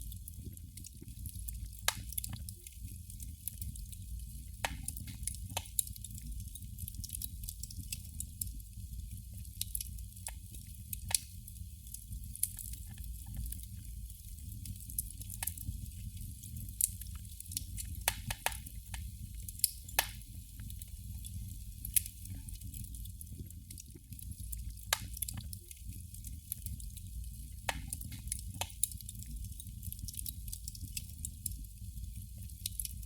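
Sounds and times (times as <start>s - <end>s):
candle crackling: 0.0s - 33.0s.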